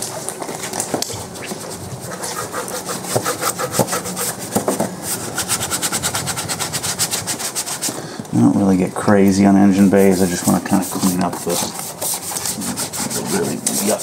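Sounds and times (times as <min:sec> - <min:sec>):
brush scrubbing wet plastic: 0:00.0 - 0:14.0.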